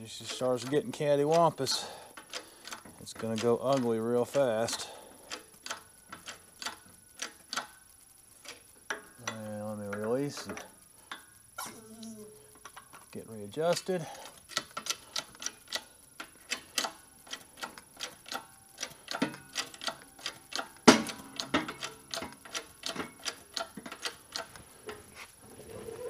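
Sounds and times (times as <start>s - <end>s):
sharp metallic clicks: 0.2s - 11.3s, 12.6s - 24.6s.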